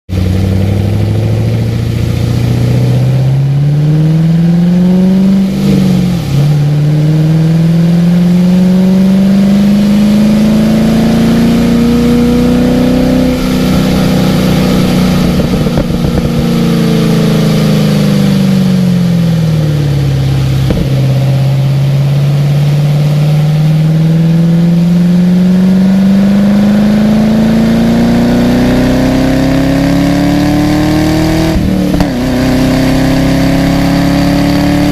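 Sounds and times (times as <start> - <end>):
car engine pulling hard: 0.1 - 34.9.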